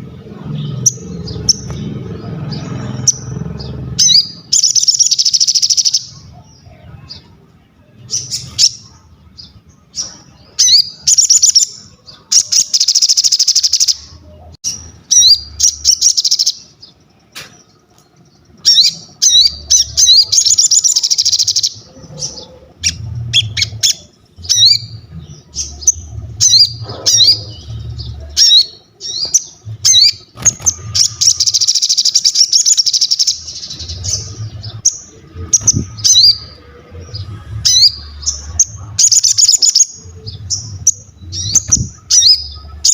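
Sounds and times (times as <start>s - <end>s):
songbird chirping and trilling: 0.0s - 42.9s.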